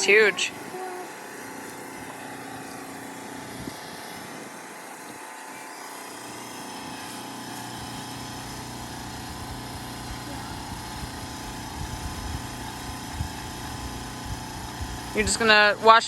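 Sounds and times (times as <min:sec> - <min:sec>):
pressure washer engine running: 0:00.0 - 0:16.0.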